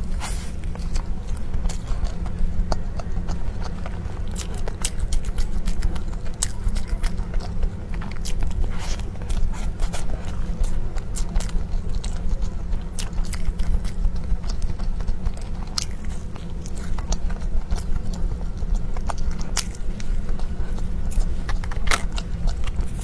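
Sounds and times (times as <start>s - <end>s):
steady low hum: 0.0s - 23.0s
wet chewing mouth clicks: 0.0s - 23.0s.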